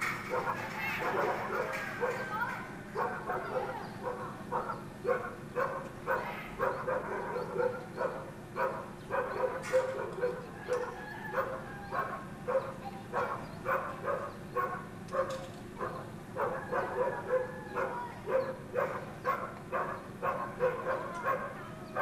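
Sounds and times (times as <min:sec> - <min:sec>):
dog barking: 0:00.3 - 0:02.4, 0:03.0 - 0:22.0.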